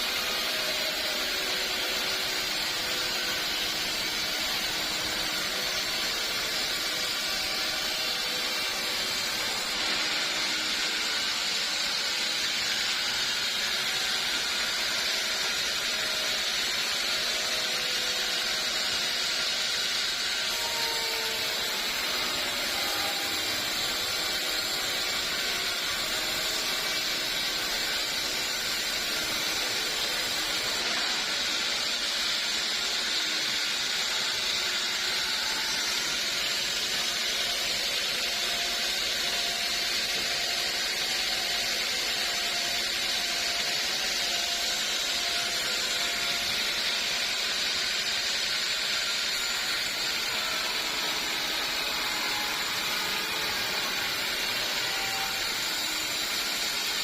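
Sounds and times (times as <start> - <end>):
sawmill saw hissing: 0.0 - 57.0.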